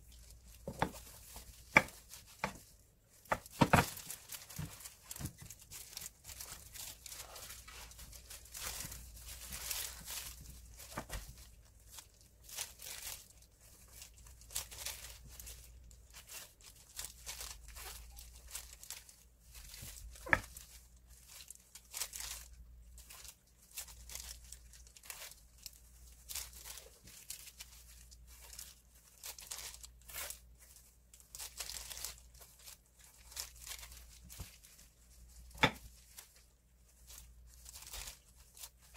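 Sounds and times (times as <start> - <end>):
plastic gloves crinkling: 0.0 - 38.9.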